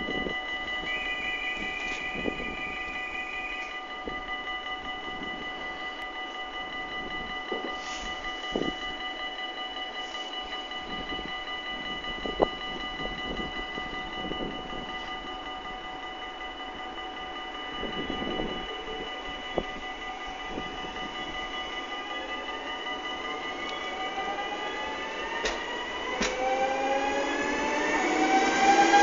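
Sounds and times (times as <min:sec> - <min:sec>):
electric train whine and hum: 0:00.0 - 0:29.0.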